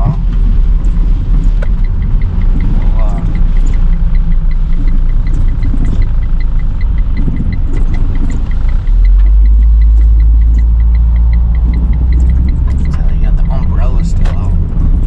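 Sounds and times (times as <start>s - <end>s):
car engine and road rumble: 0.0s - 15.0s
faint high ticking: 0.0s - 15.0s.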